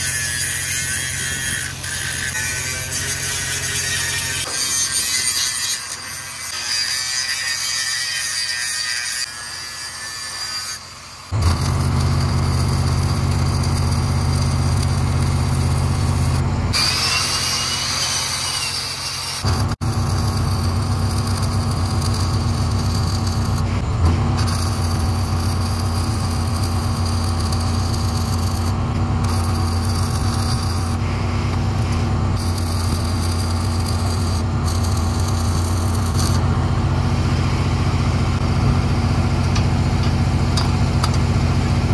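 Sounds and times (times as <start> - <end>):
angle grinder on steel: 0.0 - 41.2
welder engine droning: 0.0 - 41.9
welding arc crackle: 0.0 - 41.9.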